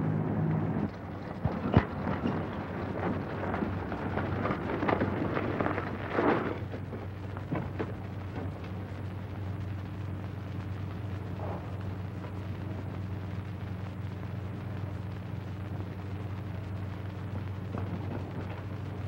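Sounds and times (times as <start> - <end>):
low steady hum: 0.0 - 19.0
rushing crackling storm noise: 0.0 - 19.0.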